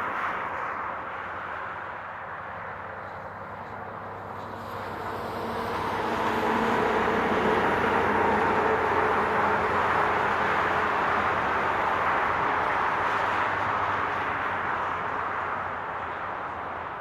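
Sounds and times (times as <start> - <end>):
highway traffic: 0.0 - 17.0.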